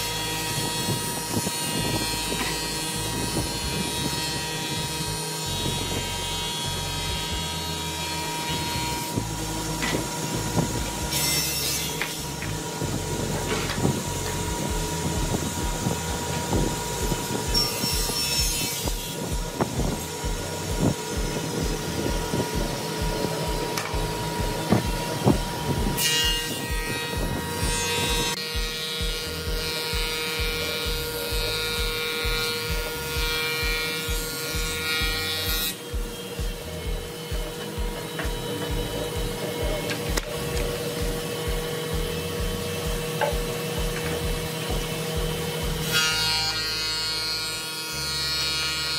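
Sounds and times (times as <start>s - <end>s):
background music with low beat: 0.0s - 48.9s
thickness planer cutting wood: 0.0s - 48.9s.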